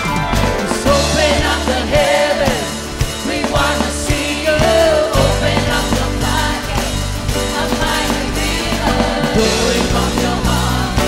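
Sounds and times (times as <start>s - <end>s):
drums: 0.0s - 11.0s
person singing: 0.8s - 11.0s.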